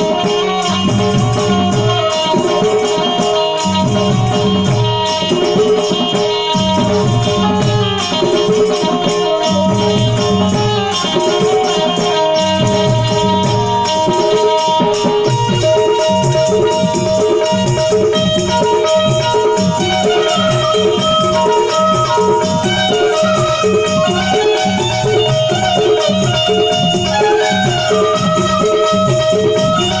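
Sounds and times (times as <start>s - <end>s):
harmonium playing: 0.0s - 30.0s
shaken percussion rattling: 0.0s - 30.0s
tabla rhythm: 0.0s - 30.0s.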